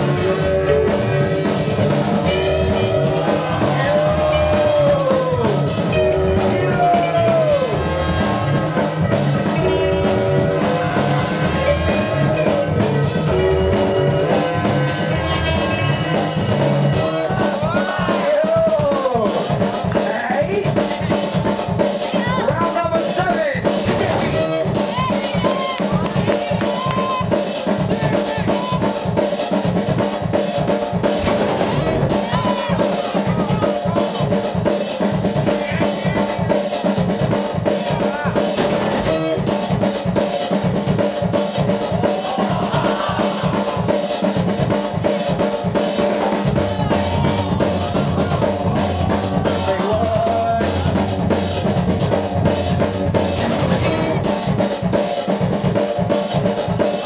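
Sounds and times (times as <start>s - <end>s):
deep bass line: 0.0s - 21.6s, 23.6s - 27.2s, 30.8s - 55.0s
breakbeat music over sound system: 0.0s - 57.0s.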